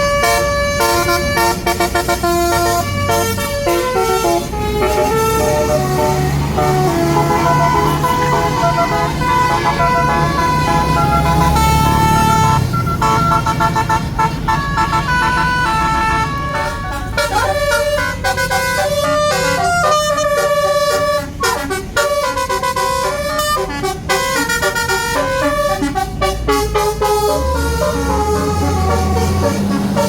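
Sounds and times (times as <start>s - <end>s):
bus engine running: 0.0s - 30.0s
musical air horn melody: 0.0s - 30.0s.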